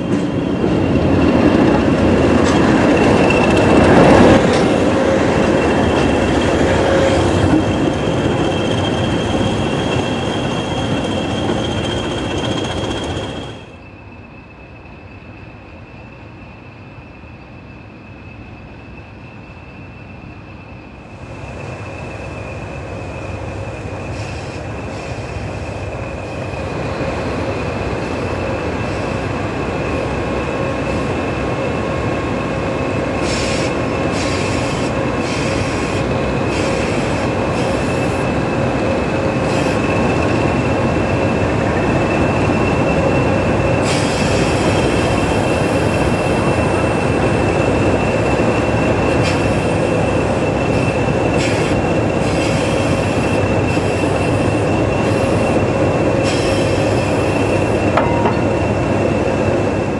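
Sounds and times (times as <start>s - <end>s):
diesel locomotive engine with whine: 0.0s - 59.9s.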